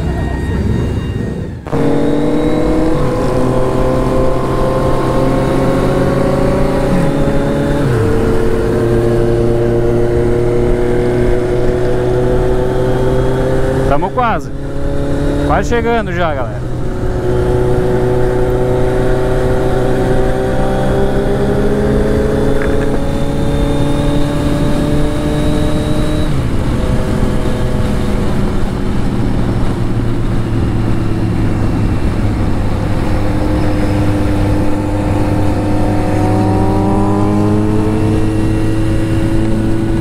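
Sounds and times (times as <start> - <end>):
motorcycle engine running: 1.6 - 40.0.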